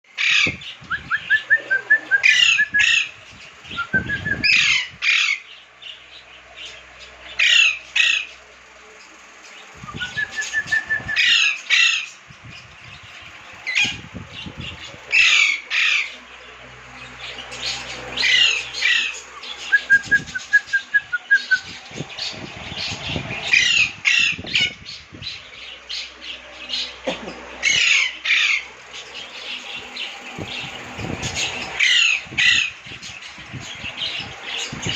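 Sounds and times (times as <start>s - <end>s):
lovebirds squawking: 0.1s - 34.9s.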